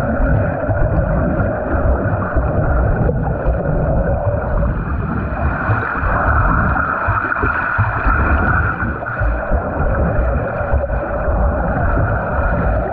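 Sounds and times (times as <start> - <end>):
low thumps in water: 0.0 - 12.9
water splashing from swimming: 0.0 - 12.9.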